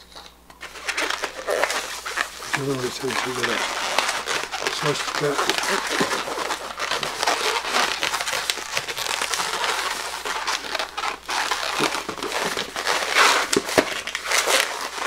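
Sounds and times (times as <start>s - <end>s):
balloon squeaking as twisted: 0.0s - 15.0s.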